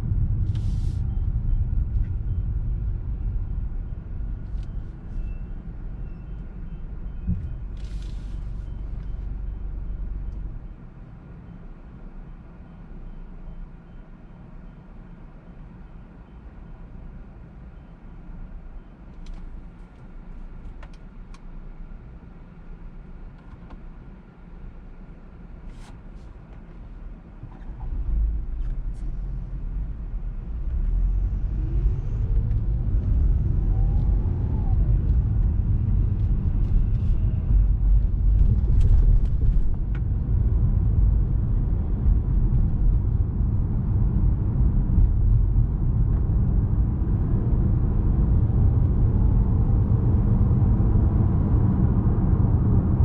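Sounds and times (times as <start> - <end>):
car engine low rumble: 0.0 - 53.0
road noise: 0.0 - 53.0.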